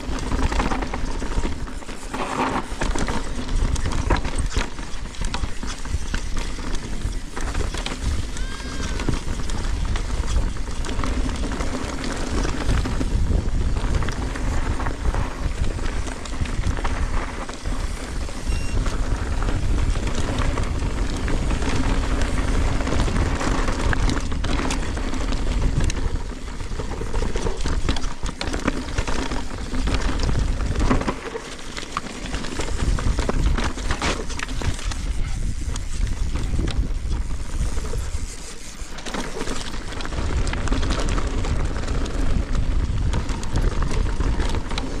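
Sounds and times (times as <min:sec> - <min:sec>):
bike chain and frame clattering: 0:00.0 - 0:45.0
tyres rumbling over dirt and rock: 0:00.0 - 0:45.0
wind buffeting microphone: 0:00.0 - 0:45.0.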